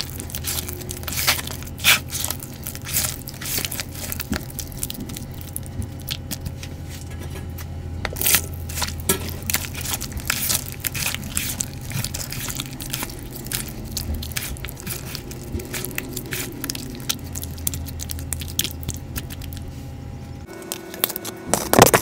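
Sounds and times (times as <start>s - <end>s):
hands squishing wet paste: 0.0s - 7.0s, 8.1s - 19.7s
low steady hum: 0.0s - 22.0s.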